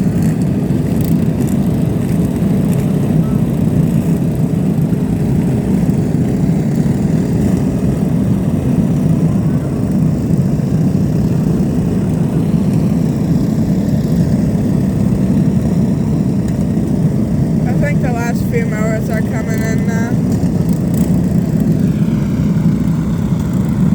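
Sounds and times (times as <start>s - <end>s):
lawn mower engines droning: 0.0s - 23.9s.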